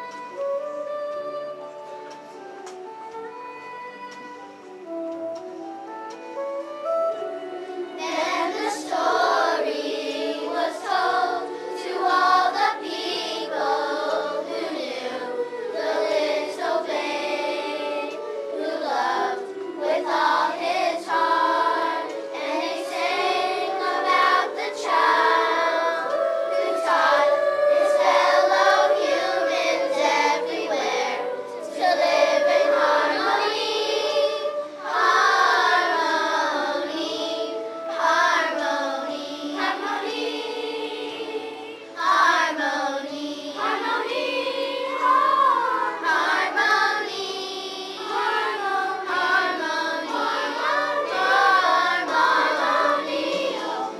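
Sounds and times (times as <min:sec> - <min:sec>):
children's chorus singing: 0:00.0 - 0:03.3, 0:04.1 - 0:53.9.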